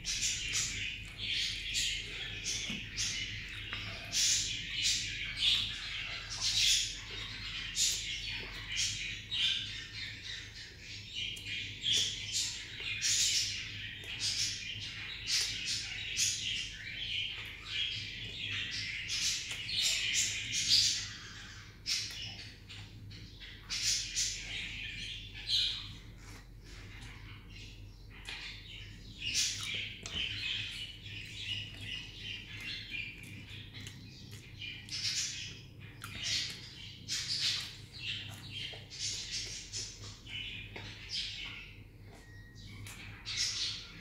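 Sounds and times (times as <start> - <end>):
low steady hum: 0.0 - 44.0
small birds chirping: 0.0 - 44.0.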